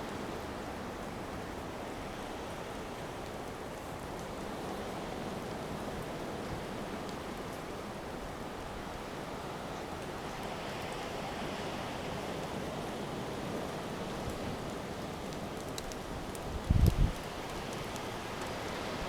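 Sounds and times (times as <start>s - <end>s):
wind-driven rain: 0.0s - 19.0s.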